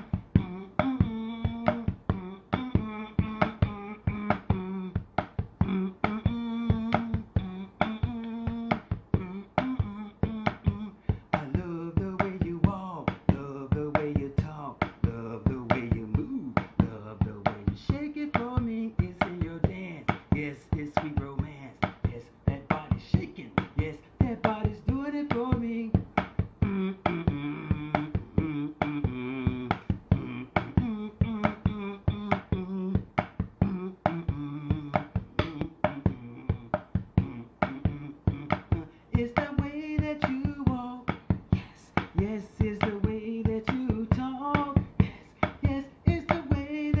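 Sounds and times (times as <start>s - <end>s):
man singing over a beat: 0.0s - 47.0s.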